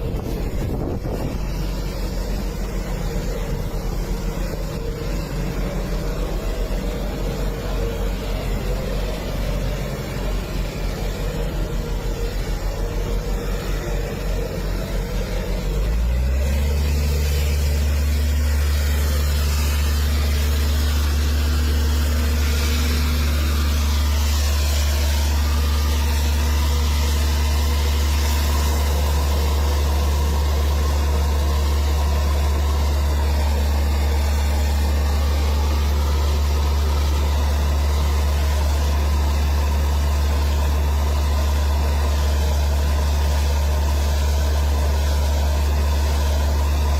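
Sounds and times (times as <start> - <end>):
large engine idling: 0.0 - 46.9.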